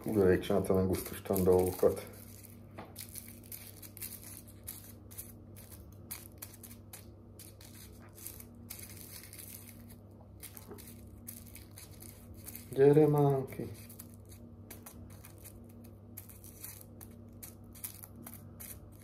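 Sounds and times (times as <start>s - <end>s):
fingers crumbling dry herb: 0.0s - 19.0s.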